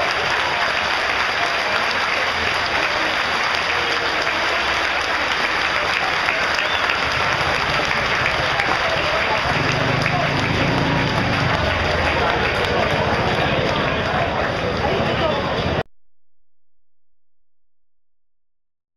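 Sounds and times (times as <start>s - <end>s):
stadium crowd applauding: 0.0s - 15.8s.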